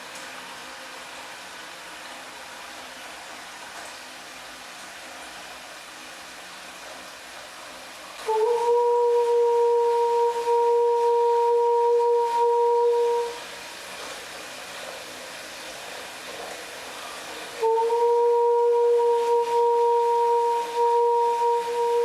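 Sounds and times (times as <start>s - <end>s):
running tap water: 0.0s - 22.0s.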